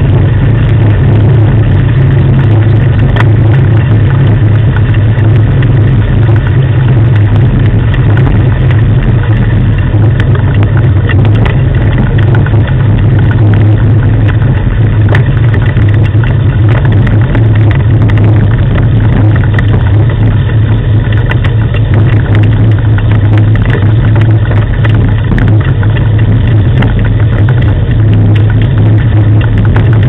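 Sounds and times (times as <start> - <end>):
training rig rolling over gravel: 0.0 - 30.0.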